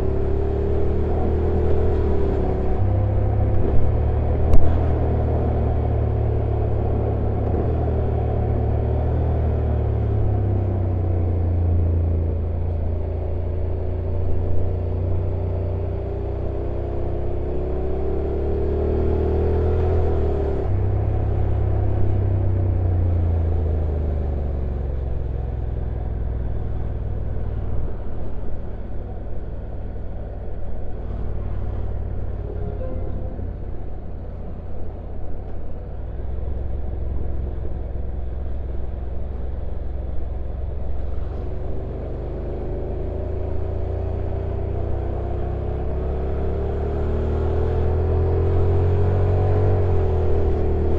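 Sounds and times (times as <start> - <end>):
motorcycle engine rumbling: 0.0 - 18.2, 19.7 - 46.0.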